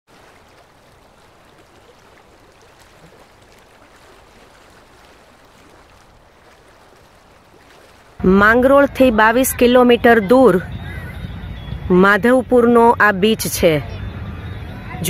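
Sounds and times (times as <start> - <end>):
gentle surf on beach: 0.1 - 14.2.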